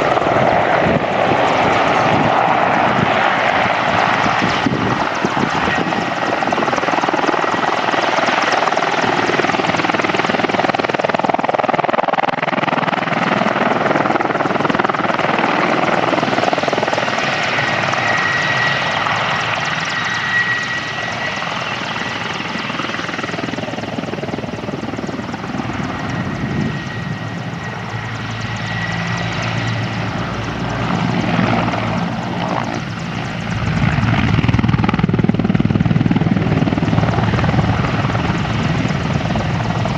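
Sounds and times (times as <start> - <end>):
helicopter engines and rotor: 0.0 - 39.9
high turbine whine: 0.0 - 39.9.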